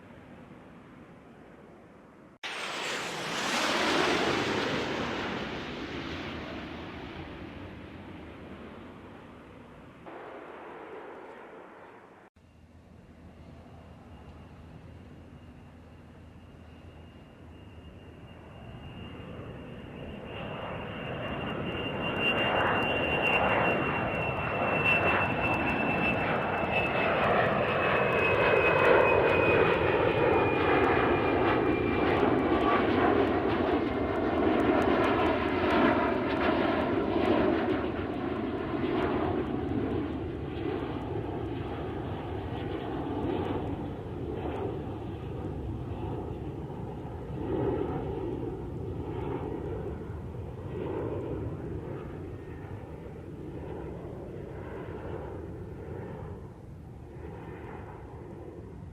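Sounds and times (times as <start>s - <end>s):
airplane engine passing overhead: 0.0s - 58.9s.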